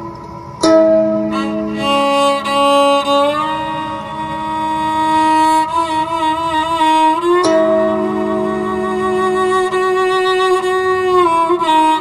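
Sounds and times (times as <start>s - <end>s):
bowed string melody: 0.0s - 12.0s
low drone: 0.0s - 12.0s.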